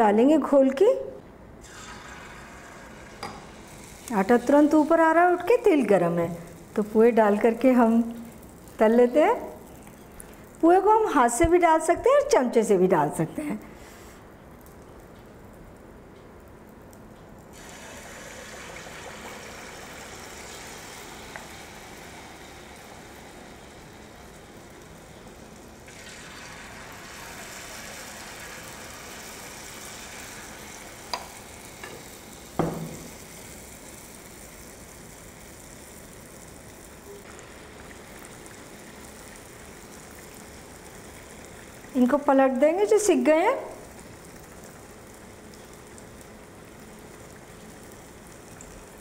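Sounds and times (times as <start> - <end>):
batter sizzling in hot oil: 1.6 - 12.0, 13.7 - 49.0.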